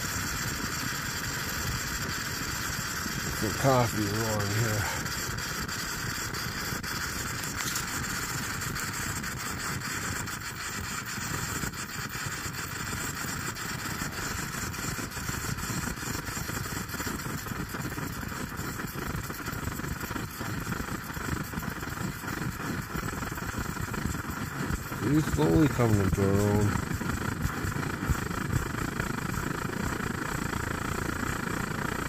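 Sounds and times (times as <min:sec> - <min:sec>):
camping stove burning rushing: 0:00.0 - 0:32.0.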